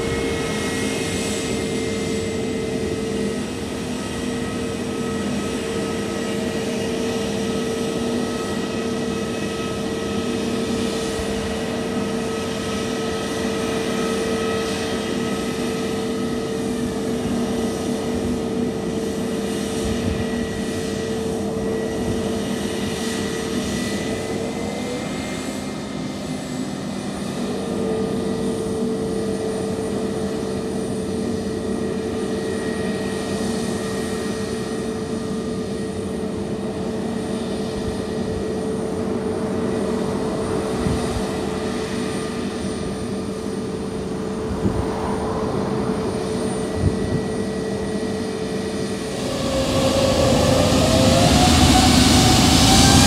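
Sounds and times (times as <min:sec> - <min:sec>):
jet engines idling whine: 0:00.0 - 0:53.0.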